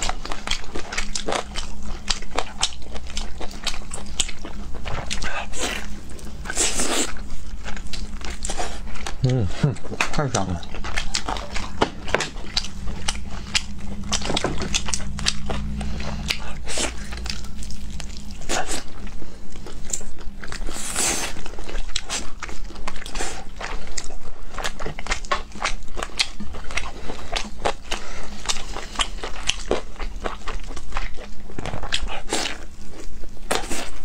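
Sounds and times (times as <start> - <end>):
low hum: 0.0 - 31.6
chewing and biting crunches: 0.0 - 34.0.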